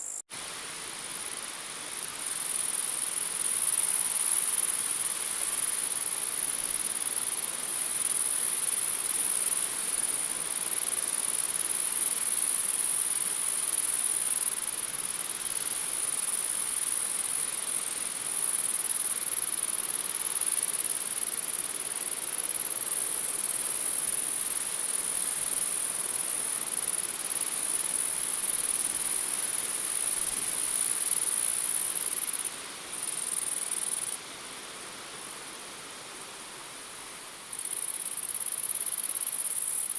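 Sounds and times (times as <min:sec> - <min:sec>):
crickets and grasshoppers chirping: 0:00.0 - 0:39.9.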